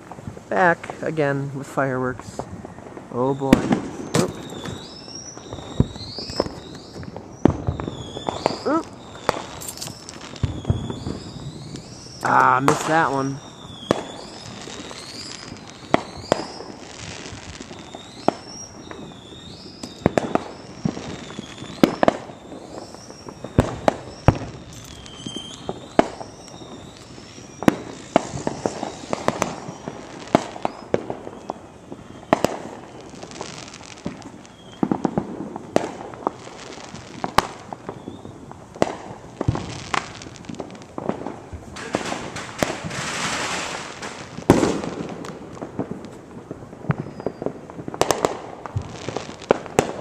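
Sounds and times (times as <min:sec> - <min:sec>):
fireworks bangs and crackle: 0:00.0 - 0:50.0.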